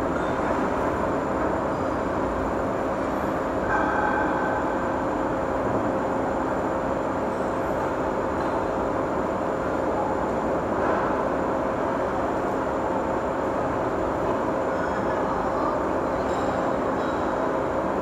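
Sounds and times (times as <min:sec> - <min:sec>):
constant machinery hum: 0:00.0 - 0:18.0.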